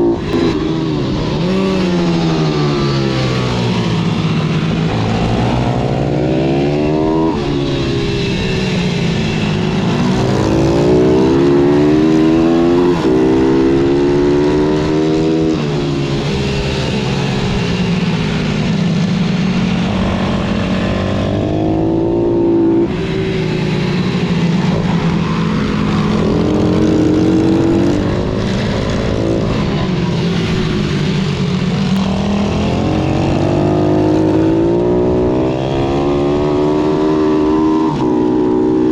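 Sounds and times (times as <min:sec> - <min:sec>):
motorbike engine accelerating: 0:00.0 - 0:38.9.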